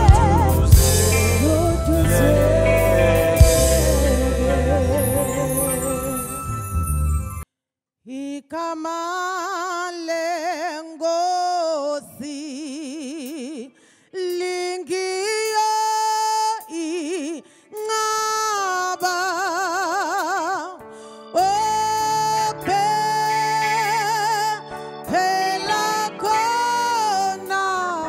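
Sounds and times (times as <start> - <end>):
woman singing unaccompanied: 0.0 - 6.2, 8.1 - 20.8, 21.4 - 28.0.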